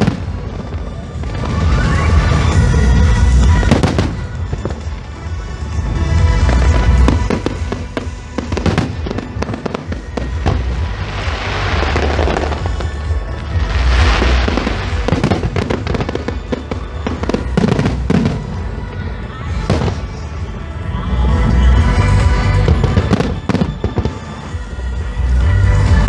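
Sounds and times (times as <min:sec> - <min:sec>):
fireworks bangs: 0:00.0 - 0:24.8
fireworks crackling: 0:00.0 - 0:26.0.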